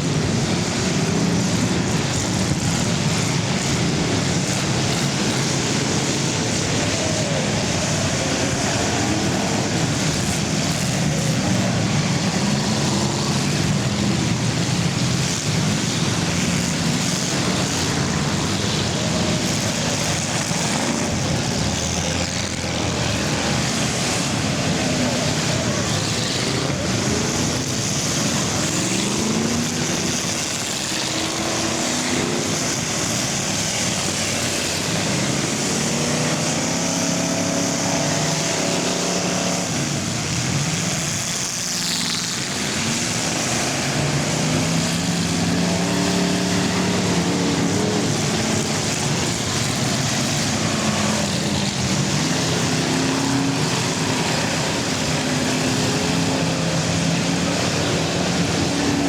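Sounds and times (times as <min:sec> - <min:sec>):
racing car engines accelerating: 0:00.0 - 0:59.0.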